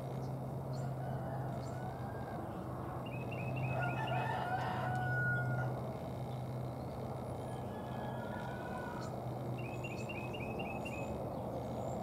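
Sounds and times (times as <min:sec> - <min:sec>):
birds calling: 0:00.0 - 0:12.0
low background hum: 0:00.0 - 0:12.0.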